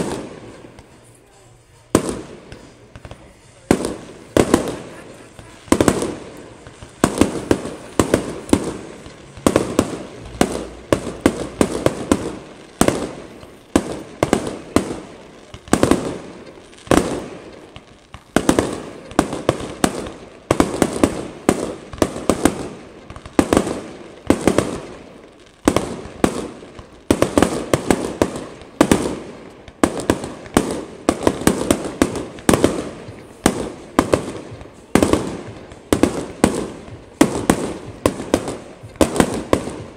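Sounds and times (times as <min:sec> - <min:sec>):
firework bangs echoing: 0:00.0 - 0:39.9.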